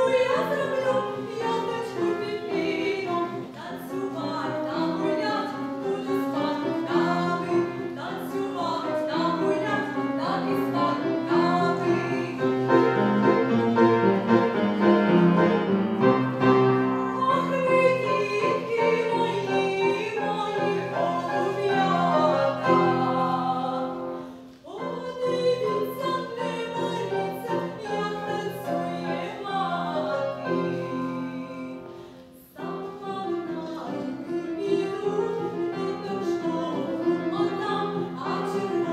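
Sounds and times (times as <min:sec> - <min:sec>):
woman singing: 0:00.0 - 0:13.4, 0:16.8 - 0:38.9
upright piano: 0:00.0 - 0:38.9.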